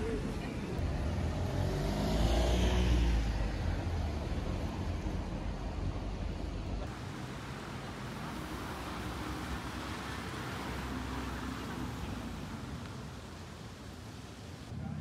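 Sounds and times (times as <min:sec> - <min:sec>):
steady outdoor hiss: 0:00.0 - 0:15.0
car driving slowly by: 0:00.7 - 0:14.7.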